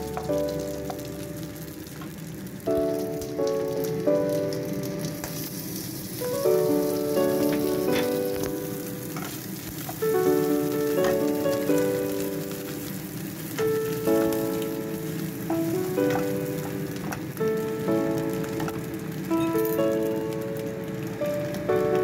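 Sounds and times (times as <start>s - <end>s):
mushrooms sizzling in a pan: 0.0s - 22.0s
slow background music: 0.0s - 22.0s.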